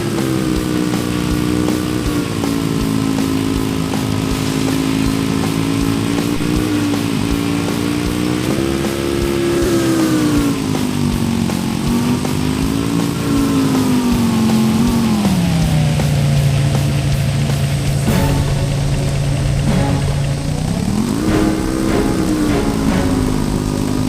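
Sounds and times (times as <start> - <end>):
small motor droning hum: 0.0 - 24.0.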